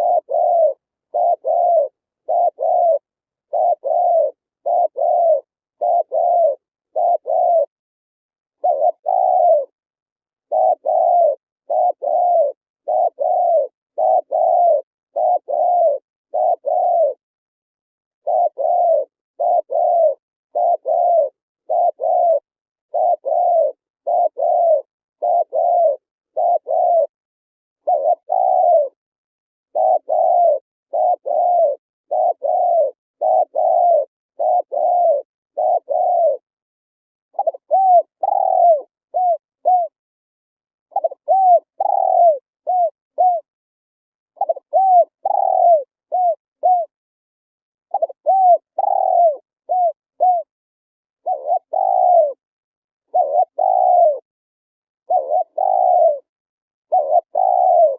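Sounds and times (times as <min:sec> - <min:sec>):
dove cooing: 0:00.0 - 0:07.8, 0:08.6 - 0:09.8, 0:10.4 - 0:17.2, 0:18.2 - 0:27.2, 0:27.8 - 0:29.0, 0:29.7 - 0:36.5, 0:37.3 - 0:40.0, 0:40.9 - 0:43.5, 0:44.4 - 0:47.0, 0:47.9 - 0:50.5, 0:51.2 - 0:52.4, 0:53.0 - 0:54.3, 0:55.0 - 0:56.3, 0:56.9 - 0:57.9.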